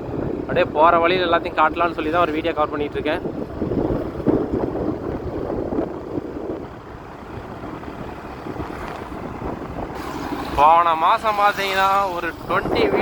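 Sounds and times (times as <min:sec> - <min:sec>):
vehicle road noise: 0:00.0 - 0:13.0
wind buffeting microphone: 0:00.0 - 0:13.0.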